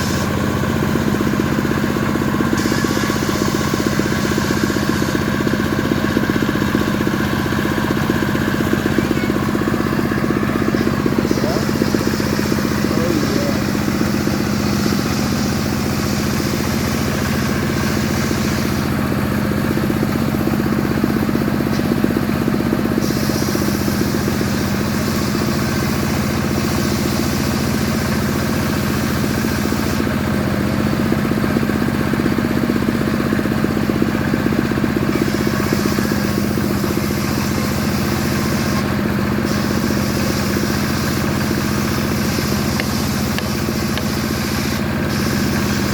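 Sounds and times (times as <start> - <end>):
chainsaw cutting wood: 0.0 - 20.6, 21.3 - 30.3, 34.8 - 45.9.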